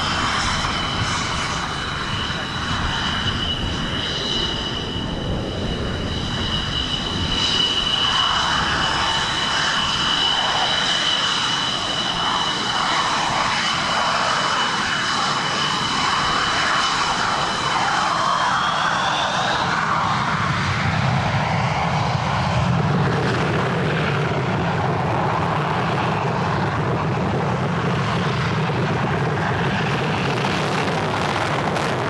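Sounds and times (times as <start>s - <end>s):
jet engine whine and rush: 0.0s - 32.0s.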